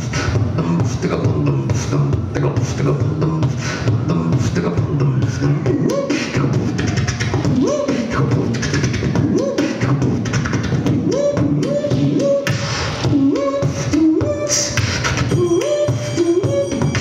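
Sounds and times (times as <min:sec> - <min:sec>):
person beatboxing: 0:00.0 - 0:17.0.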